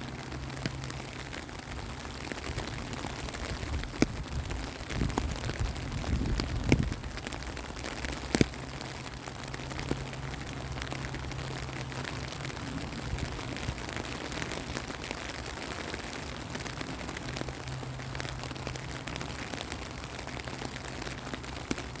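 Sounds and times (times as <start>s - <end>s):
raindrops tapping: 0.0s - 22.0s
steady rain hiss: 0.0s - 22.0s.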